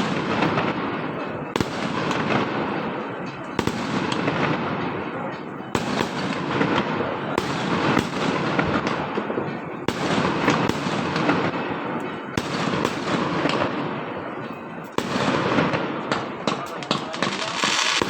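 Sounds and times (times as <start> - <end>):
fireworks bangs and crackling: 0.0 - 18.0
loud firework reports: 0.0 - 18.0.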